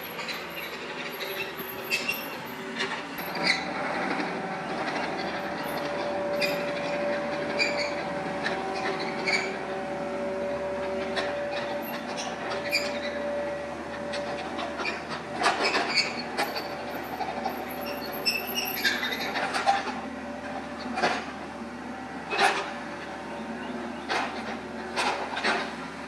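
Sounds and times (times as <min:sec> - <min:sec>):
metallic clanks and squeaks: 0:00.0 - 0:21.4, 0:22.2 - 0:25.9
diesel engine under load: 0:00.0 - 0:26.0
hydraulic whine: 0:00.0 - 0:26.0.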